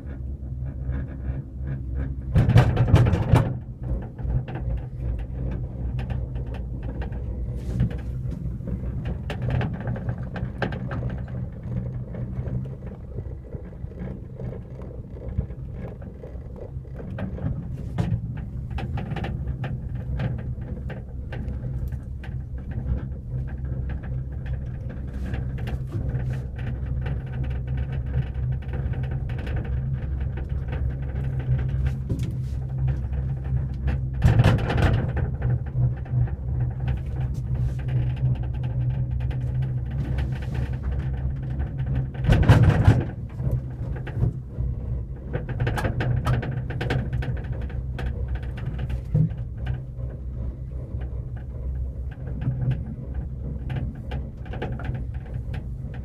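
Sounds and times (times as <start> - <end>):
cable car cabin rumble: 0.0 - 56.0.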